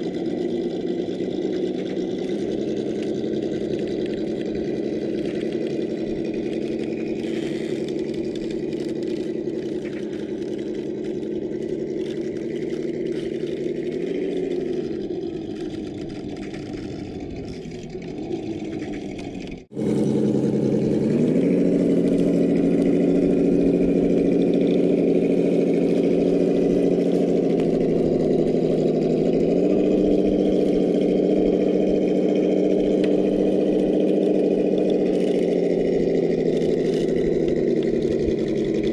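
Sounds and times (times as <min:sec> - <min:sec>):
rc car motor droning: 0:00.0 - 0:38.9.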